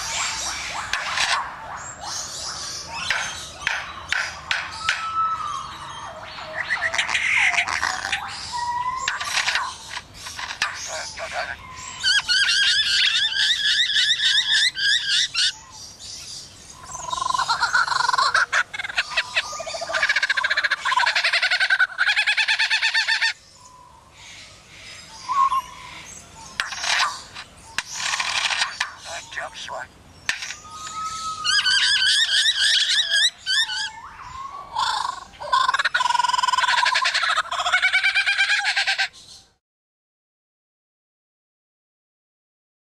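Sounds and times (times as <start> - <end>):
bird singing: 0.0 - 39.6.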